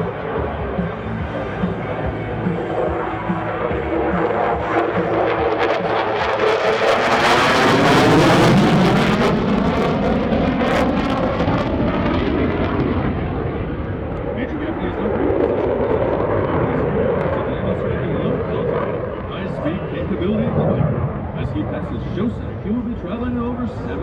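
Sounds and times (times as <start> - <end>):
jet engine flyby: 0.0 - 24.0.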